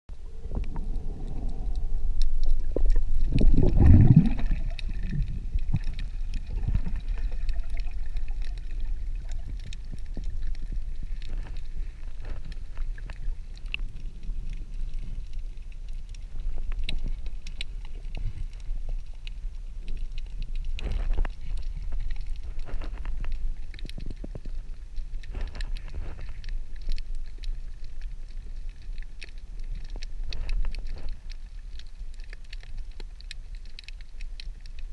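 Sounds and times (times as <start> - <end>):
faint clicks and knocks: 0.1 - 34.9
gurgling rush of water and bubbles: 0.1 - 34.9
underwater rumble of moving water: 0.1 - 34.9.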